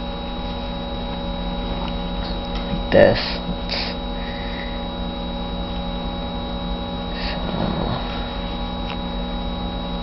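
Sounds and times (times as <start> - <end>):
electrical mains hum: 0.0 - 10.0
high whine: 0.0 - 10.0.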